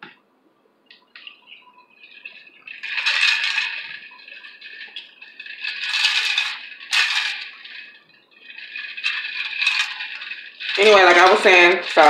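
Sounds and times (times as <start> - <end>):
rattling in glass: 2.0 - 12.0.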